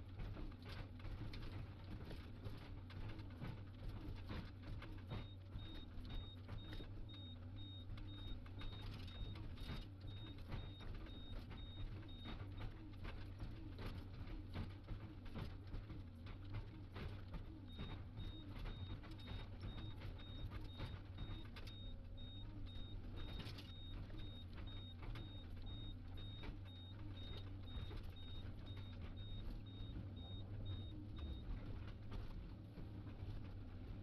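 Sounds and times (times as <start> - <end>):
excavator engine running: 5.2 - 34.0.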